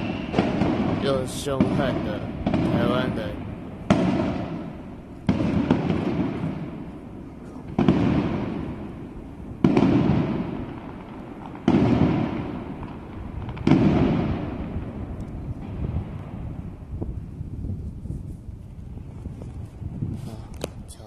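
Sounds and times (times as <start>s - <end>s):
firework shells bursting: 0.0s - 17.2s
rumble after bangs: 0.4s - 17.3s.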